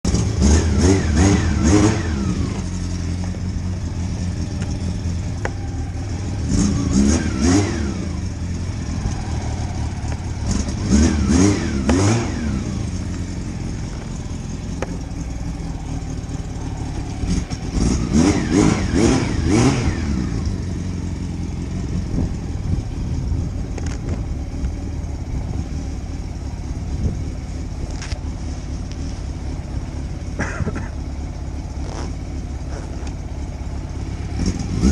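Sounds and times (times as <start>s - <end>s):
motorcycle engine accelerating: 0.1s - 34.9s.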